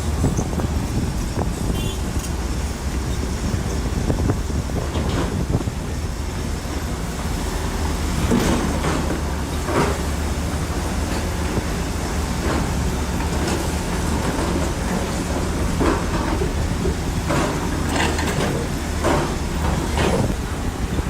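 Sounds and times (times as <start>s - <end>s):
bulldozer diesel engine running: 0.0s - 21.0s
steel tracks clanking and squealing: 0.0s - 21.0s.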